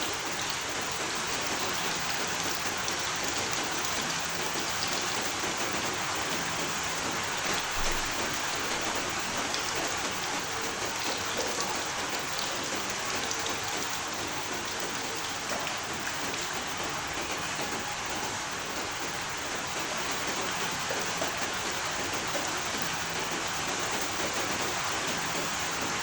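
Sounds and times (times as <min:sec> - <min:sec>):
rain falling: 0:00.0 - 0:26.0
raindrop ticks: 0:00.0 - 0:26.0.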